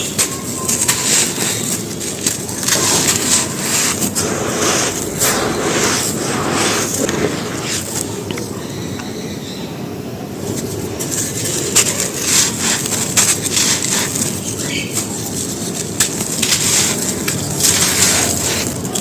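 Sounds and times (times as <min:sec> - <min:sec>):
chalk crunching on floor: 0:00.0 - 0:08.3, 0:10.4 - 0:19.0.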